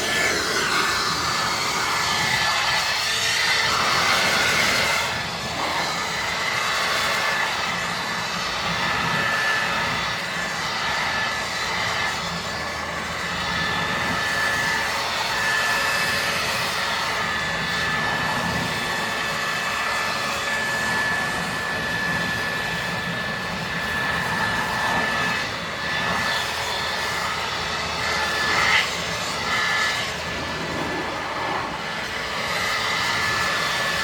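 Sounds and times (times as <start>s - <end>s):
pressure washer whining: 0.0s - 34.0s.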